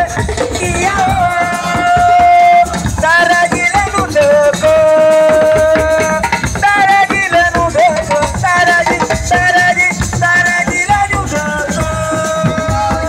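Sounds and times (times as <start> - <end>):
hand drums: 0.0 - 13.0
lead voice singing: 0.0 - 13.0
shakers: 0.0 - 13.0.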